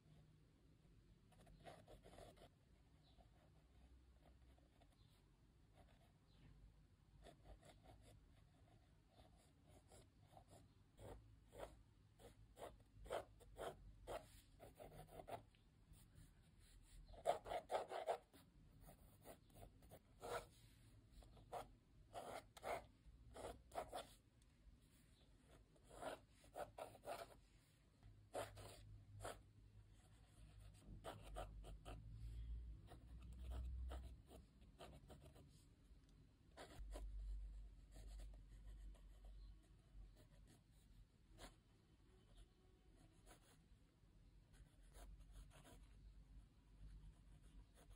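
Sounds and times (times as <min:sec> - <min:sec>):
pencil scratching on paper: 0:01.3 - 0:06.2, 0:07.2 - 0:24.2, 0:25.4 - 0:27.5, 0:28.3 - 0:35.7, 0:36.5 - 0:41.7, 0:43.0 - 0:43.6, 0:44.5 - 0:46.0, 0:46.8 - 0:47.9.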